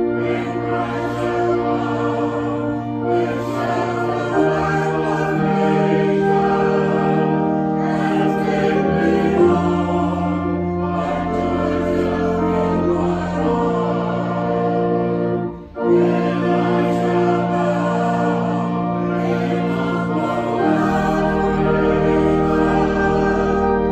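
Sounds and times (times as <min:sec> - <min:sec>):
choir singing a hymn: 0:00.0 - 0:23.9.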